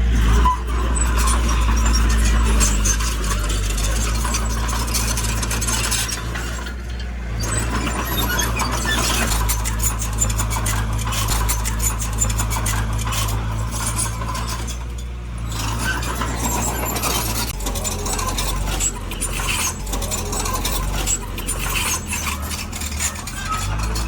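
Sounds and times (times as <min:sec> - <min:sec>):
heavy diesel machine running: 0:00.0 - 0:24.0.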